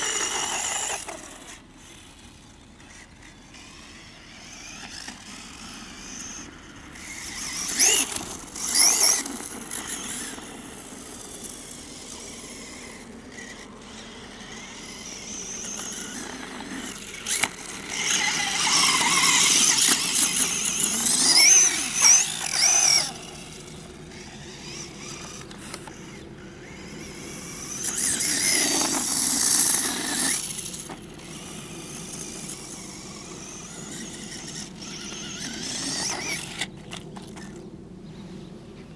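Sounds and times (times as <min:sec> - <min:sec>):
electric motor whining: 0:00.0 - 0:37.7.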